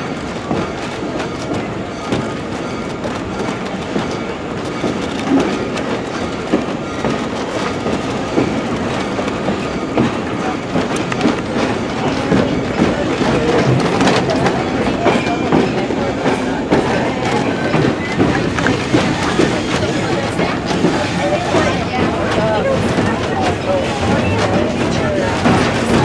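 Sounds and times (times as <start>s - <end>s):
track clicks and knocks: 0.0s - 26.0s
train wheels rumbling on rail: 0.0s - 26.0s.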